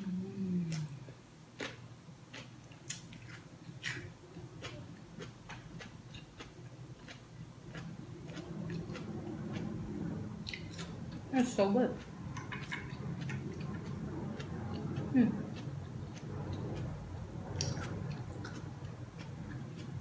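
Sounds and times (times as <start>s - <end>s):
chewing food: 1.6s - 20.0s.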